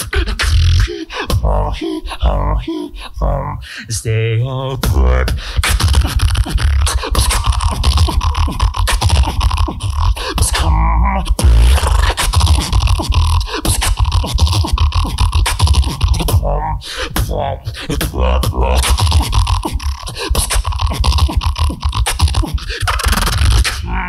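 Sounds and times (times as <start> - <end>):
person beatboxing: 0.0 - 24.0.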